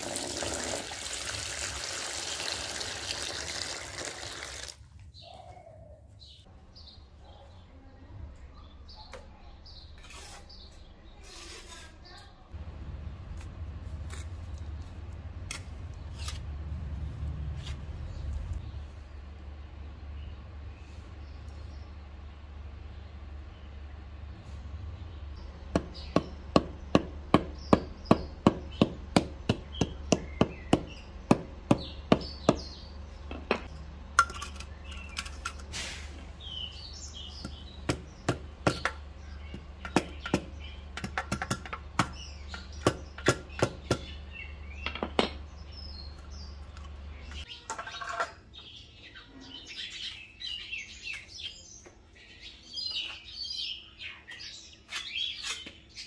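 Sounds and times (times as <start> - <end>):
small birds chirping: 3.5 - 12.6, 17.6 - 56.0.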